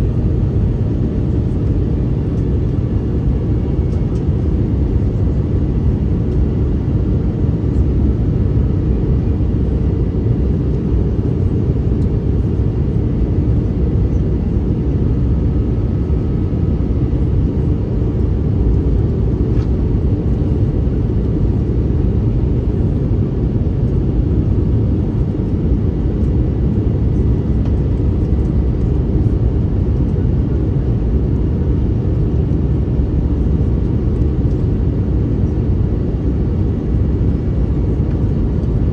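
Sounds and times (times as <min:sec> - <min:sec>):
aircraft cabin drone: 0:00.0 - 0:38.9.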